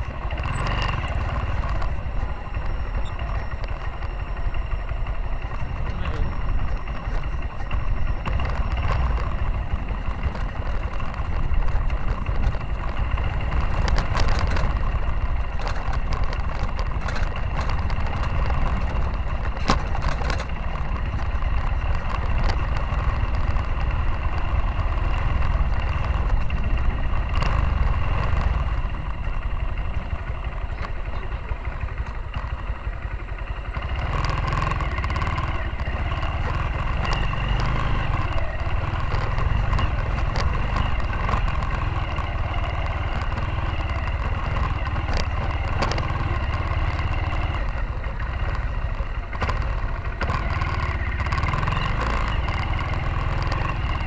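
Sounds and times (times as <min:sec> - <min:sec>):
knocks and rattles over bumps: 0:00.0 - 0:54.0
motorcycle engine running: 0:00.0 - 0:54.0.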